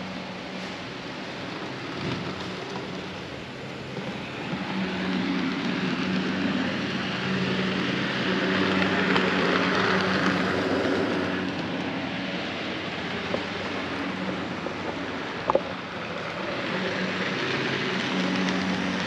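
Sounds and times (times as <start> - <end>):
model train motor hum: 0.0 - 19.0
wheels rumbling on track: 0.0 - 19.0.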